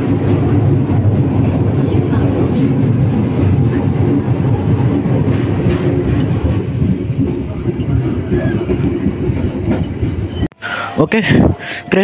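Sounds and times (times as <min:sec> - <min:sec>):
train wheels rumbling on rails: 0:00.0 - 0:10.6.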